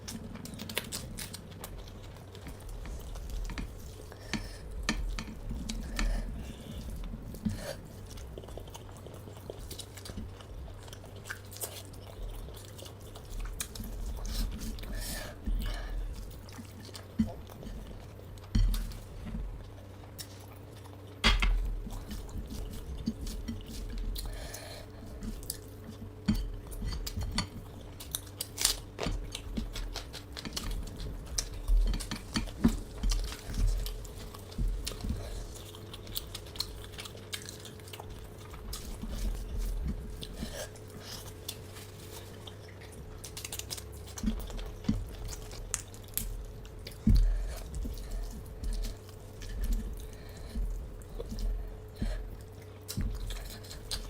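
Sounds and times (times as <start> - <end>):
faint steady hum: 0.0 - 54.0
person chewing and crunching: 0.0 - 54.0.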